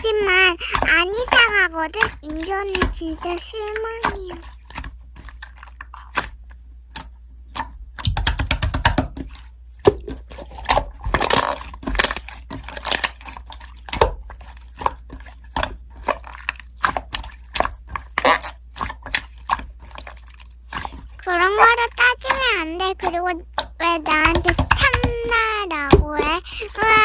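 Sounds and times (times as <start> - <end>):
slime squished by hand: 0.0 - 27.0.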